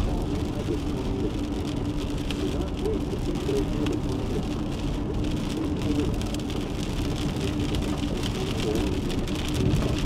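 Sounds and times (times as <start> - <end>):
rain pattering on vehicle: 0.0 - 10.0.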